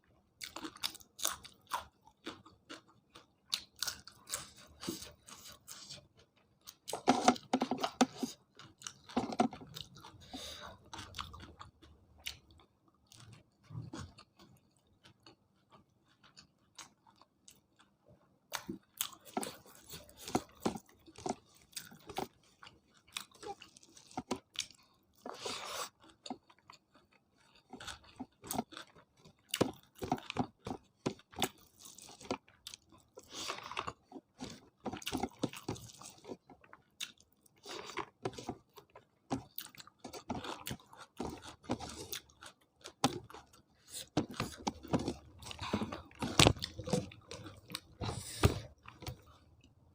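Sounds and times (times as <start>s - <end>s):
person chewing and crunching food: 0.1s - 49.9s.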